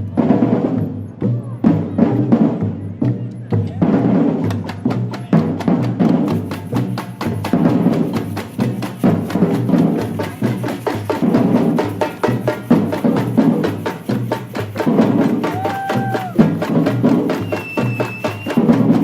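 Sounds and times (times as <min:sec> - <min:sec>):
low drum beats: 0:00.0 - 0:19.0
percussion group drumming: 0:00.0 - 0:19.0.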